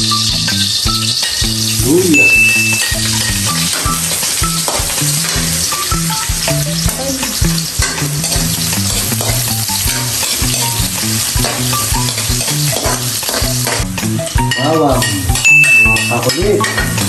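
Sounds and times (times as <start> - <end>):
ginger sizzling in oil: 0.0 - 17.0.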